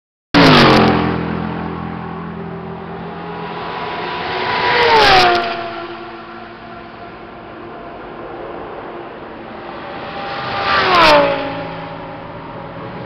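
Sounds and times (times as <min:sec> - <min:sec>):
race cars passing at speed: 0:00.4 - 0:13.0.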